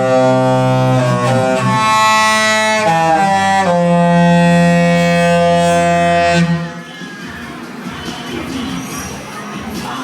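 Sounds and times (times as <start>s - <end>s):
long held instrumental chords: 0.0s - 10.0s.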